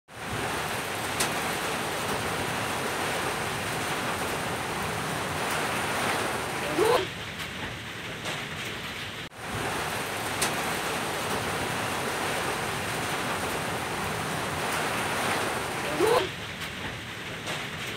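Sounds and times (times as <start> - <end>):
heavy rain hissing: 0.1 - 8.0, 8.7 - 17.9.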